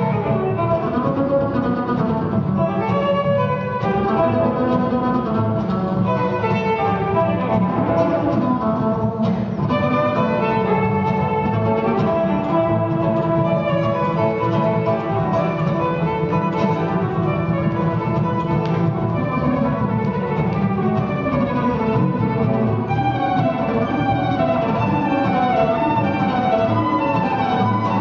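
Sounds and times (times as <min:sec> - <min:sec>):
jazz violin melody: 0:00.0 - 0:28.0
plucked double bass: 0:00.0 - 0:28.0.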